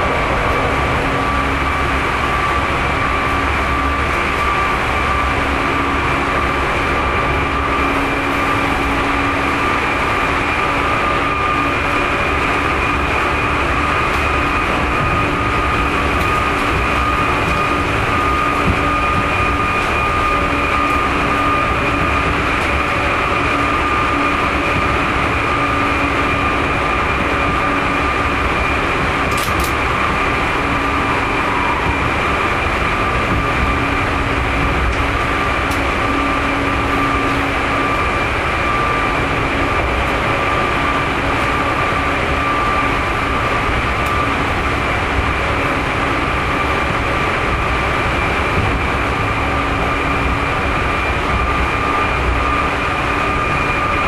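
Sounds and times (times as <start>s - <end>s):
steady high whine: 0.0s - 54.0s
train wheels rumbling on rails: 0.0s - 54.0s.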